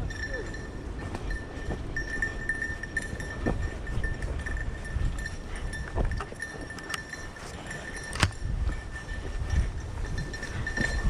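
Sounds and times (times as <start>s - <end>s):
small collar bell jingling: 0.0s - 11.0s.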